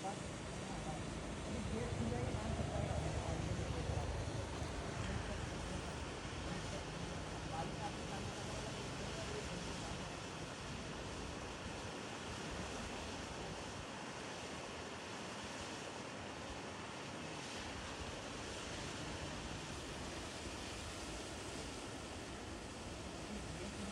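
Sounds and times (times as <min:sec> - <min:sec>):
rushing outdoor ambience: 0:00.0 - 0:23.9.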